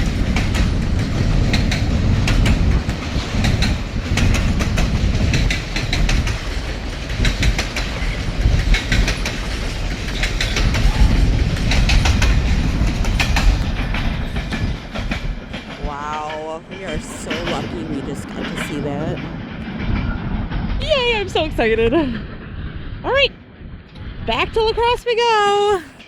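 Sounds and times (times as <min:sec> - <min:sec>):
wheels clacking over rail joints: 0:00.0 - 0:23.0
train wheels rumbling on rail: 0:00.0 - 0:26.0.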